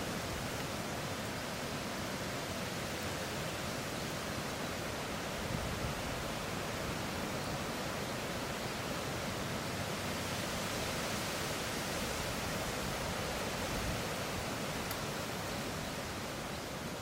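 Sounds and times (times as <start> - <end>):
leaves and branches rustling: 0.0 - 17.0
strong wind through trees: 0.0 - 17.0.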